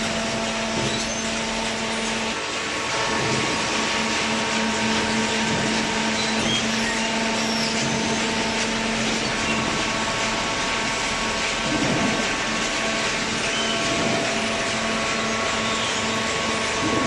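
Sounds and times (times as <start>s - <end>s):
baler motor and pump hum: 0.0s - 17.0s.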